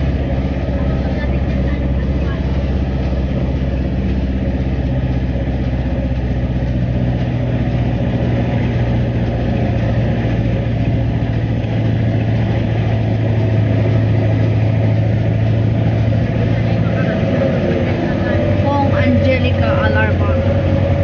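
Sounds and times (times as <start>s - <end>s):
road noise: 0.0s - 21.0s
vehicle engine humming: 0.0s - 21.0s.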